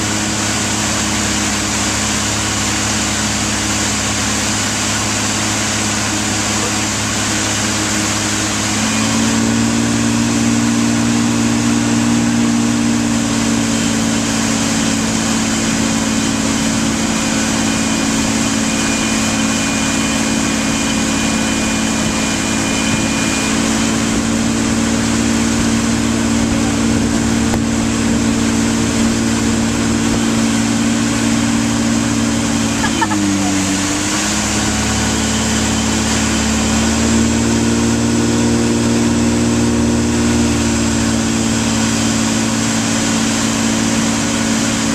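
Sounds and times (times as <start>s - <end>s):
motorboat engine running: 0.0s - 44.9s
wake rushing: 0.0s - 44.9s
wind: 0.0s - 44.9s.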